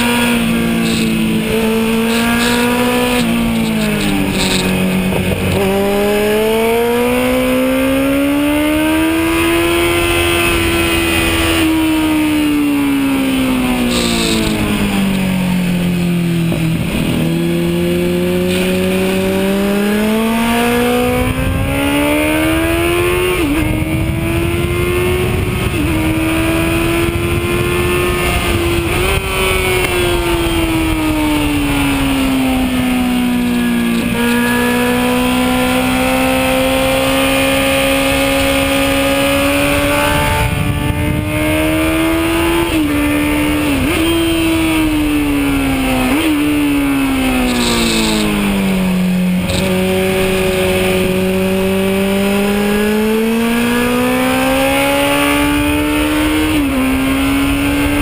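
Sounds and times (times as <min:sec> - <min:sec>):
wind rush: 0:00.0 - 0:35.5, 0:37.4 - 0:53.4
motorcycle engine at high speed: 0:00.0 - 0:58.0.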